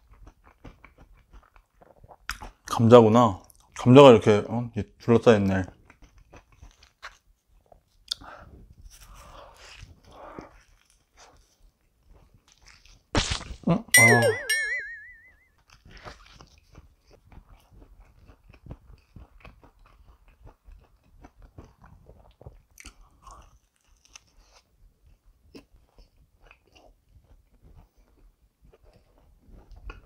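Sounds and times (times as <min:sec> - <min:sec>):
chewing pizza crust: 0:00.0 - 0:04.0, 0:05.0 - 0:13.1, 0:15.6 - 0:30.0.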